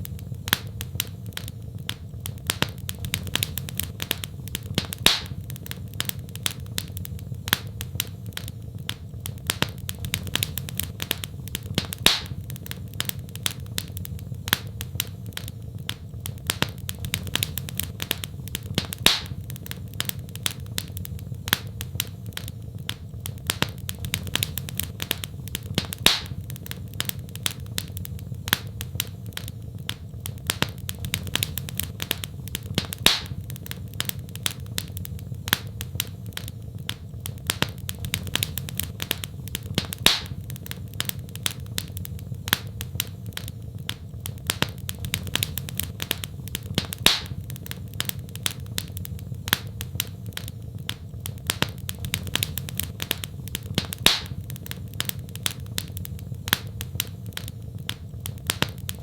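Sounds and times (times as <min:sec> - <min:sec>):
loud fire pops: 0:00.0 - 0:59.0
wood fire crackling: 0:00.0 - 0:59.0.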